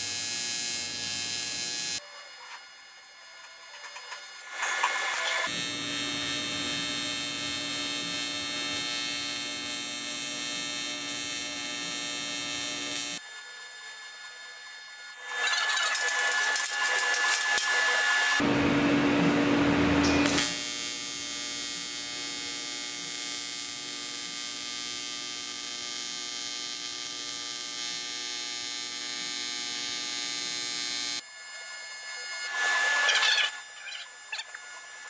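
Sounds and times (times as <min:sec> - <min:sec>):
welding arc buzzing: 0:00.0 - 0:35.0.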